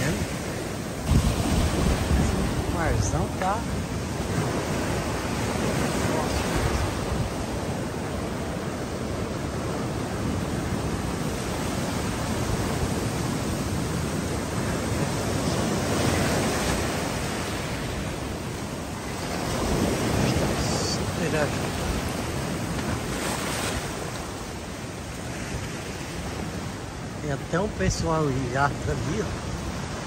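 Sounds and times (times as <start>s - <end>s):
waves breaking over sand and rocks: 0.0s - 30.0s.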